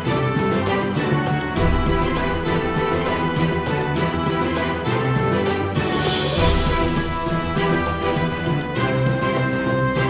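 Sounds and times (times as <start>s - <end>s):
instrumental music with percussive beat: 0.0s - 10.0s.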